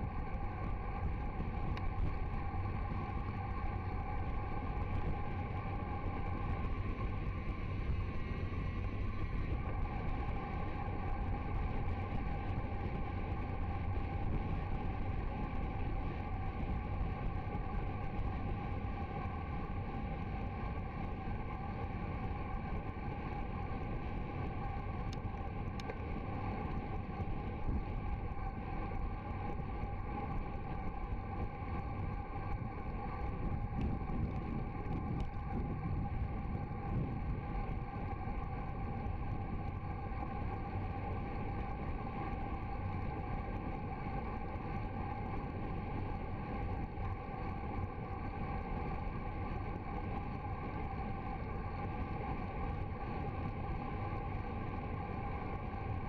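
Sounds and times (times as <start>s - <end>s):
faint steady hum: 0.0s - 56.0s
wind rush over microphone: 0.0s - 56.0s.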